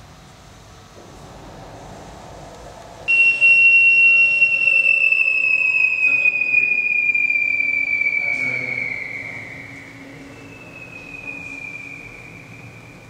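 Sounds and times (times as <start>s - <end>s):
loud high tone sinking in pitch: 0.0s - 13.0s.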